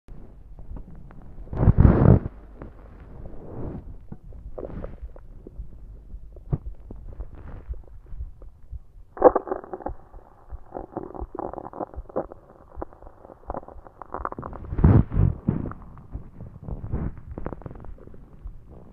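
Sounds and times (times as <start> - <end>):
stomach gurgling: 0.1 - 18.9.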